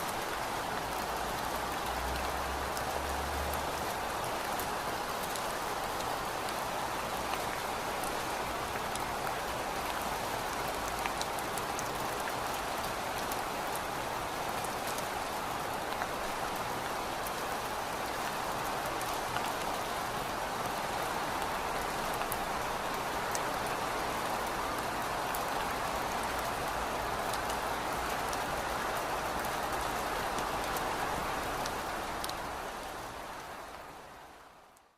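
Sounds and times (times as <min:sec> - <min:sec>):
steady rainfall: 0:00.0 - 0:34.9.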